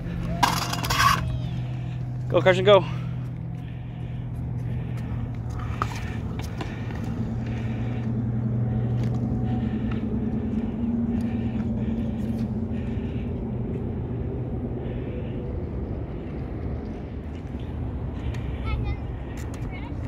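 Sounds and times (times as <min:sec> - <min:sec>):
small engine humming: 0:00.0 - 0:20.0.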